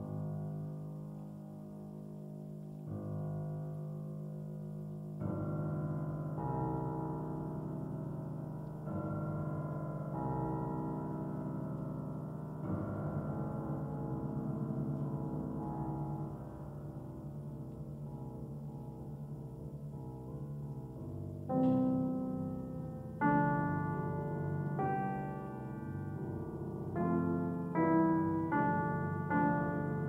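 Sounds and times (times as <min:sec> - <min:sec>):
sustained keyboard chords: 0:05.0 - 0:30.0.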